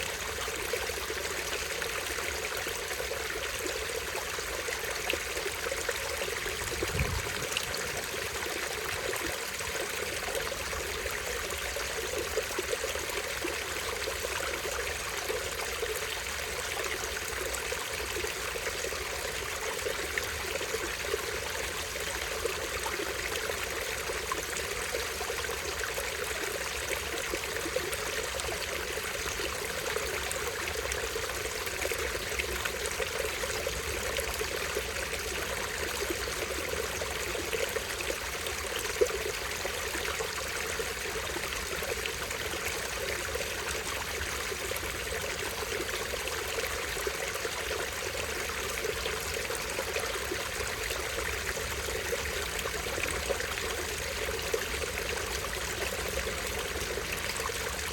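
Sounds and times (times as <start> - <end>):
stream trickling over waterfall: 0.0 - 57.9.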